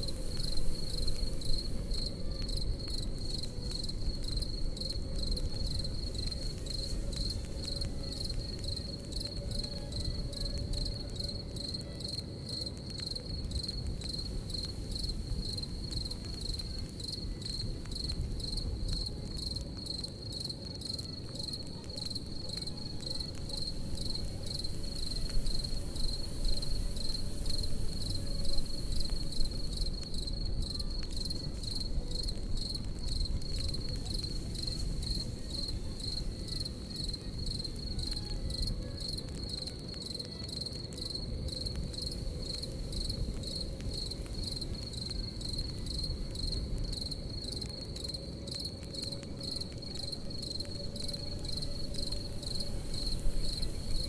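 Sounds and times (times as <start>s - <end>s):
campfire crackling: 0.0s - 54.0s
crickets chirping: 0.0s - 54.0s.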